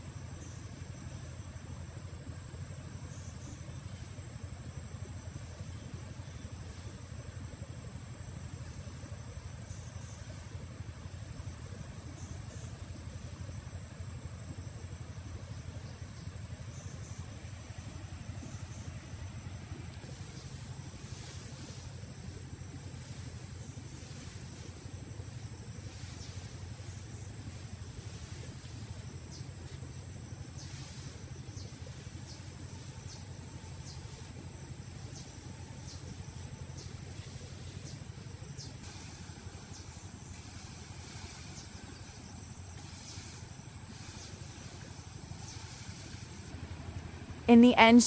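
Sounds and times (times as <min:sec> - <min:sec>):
faint hiss: 0:00.0 - 0:48.0
low engine hum: 0:00.0 - 0:48.0.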